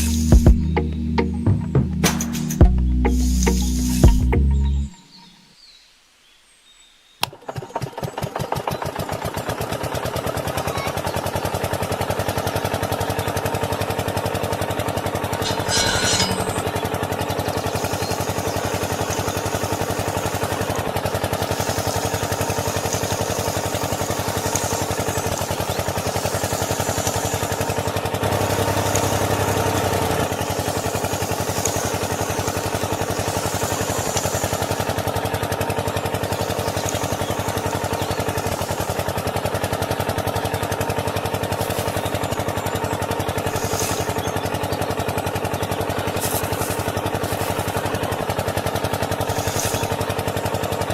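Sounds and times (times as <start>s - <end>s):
engine running with even chatter: 7.5s - 50.9s.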